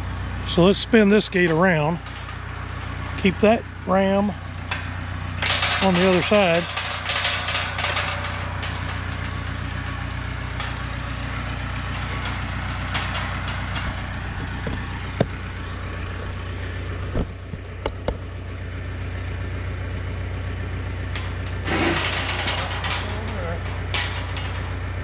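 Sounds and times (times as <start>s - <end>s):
metal gates knocking: 0.0s - 16.4s, 21.0s - 25.0s
engine idling: 0.0s - 25.0s.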